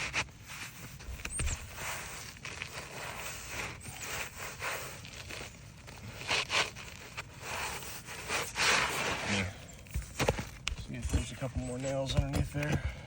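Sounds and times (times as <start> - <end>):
roofing shingles scraping: 0.0 - 12.9.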